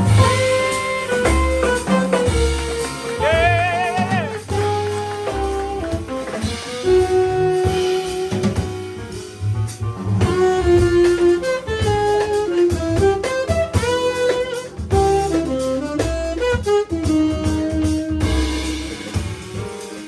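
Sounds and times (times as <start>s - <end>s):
saxophone melody: 0.0s - 9.3s, 10.2s - 19.2s
double bass: 0.0s - 20.0s
drum kit: 0.0s - 20.0s
piano: 0.0s - 20.0s.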